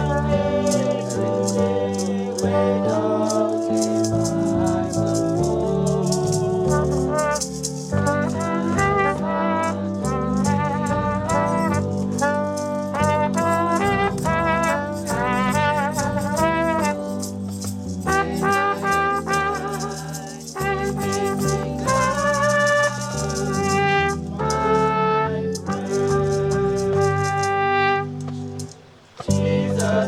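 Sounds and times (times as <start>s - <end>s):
instrumental gospel music: 0.0s - 30.0s.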